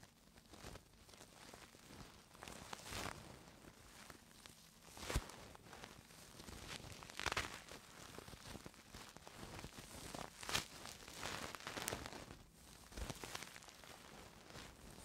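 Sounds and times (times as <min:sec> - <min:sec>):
scratching on microphone: 0:00.0 - 0:15.0.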